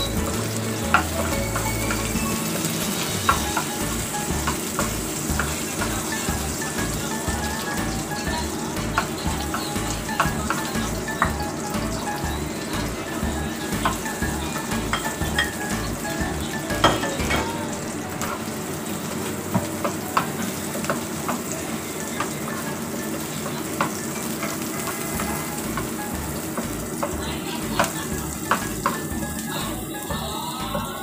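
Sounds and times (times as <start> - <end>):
onion and garlic sizzling in oil: 0.0 - 31.0.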